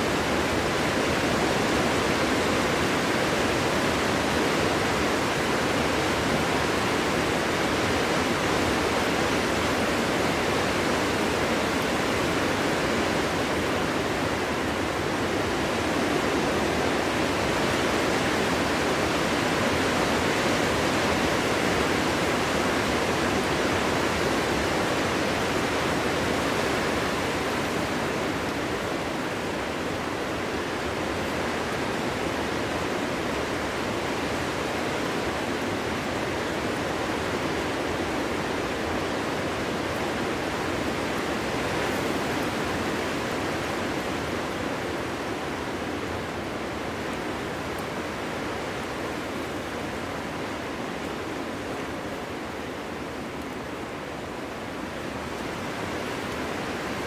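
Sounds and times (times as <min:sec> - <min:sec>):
wind through forest: 0:00.0 - 0:57.0.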